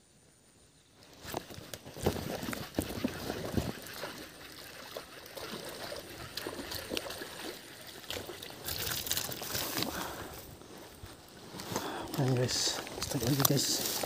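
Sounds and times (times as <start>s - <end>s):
water splashing and sloshing: 1.1s - 14.0s.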